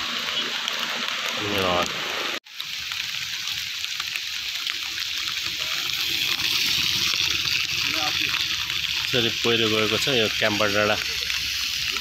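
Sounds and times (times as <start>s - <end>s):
rain and running water: 0.0s - 12.0s.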